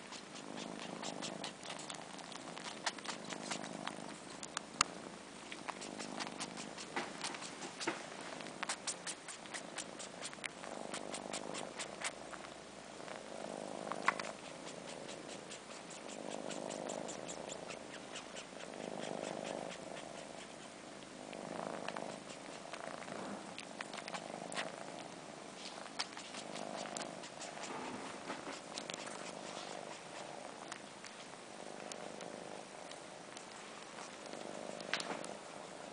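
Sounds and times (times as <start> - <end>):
kittens purring: 0.0 - 35.9
kitten suckling clicks: 0.1 - 4.9, 5.5 - 12.5, 13.9 - 25.2, 25.8 - 32.3, 32.9 - 35.4.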